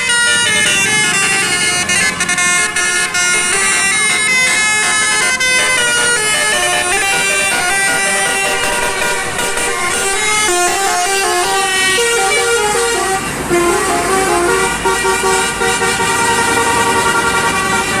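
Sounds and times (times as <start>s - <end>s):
musical air horn melody: 0.0s - 18.0s.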